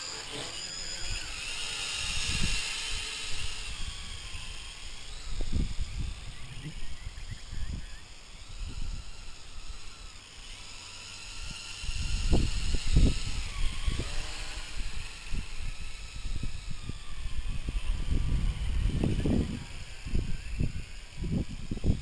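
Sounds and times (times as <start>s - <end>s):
quadcopter motors whining: 0.0s - 22.0s
wind buffeting microphone: 0.8s - 10.1s, 11.4s - 22.0s.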